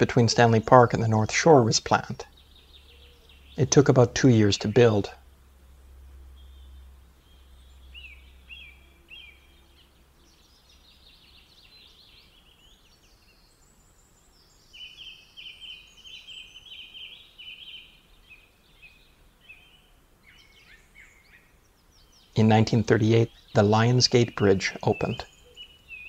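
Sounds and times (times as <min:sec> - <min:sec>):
birds chirping and trilling: 0:00.0 - 0:26.0
faint low hum: 0:00.0 - 0:26.0.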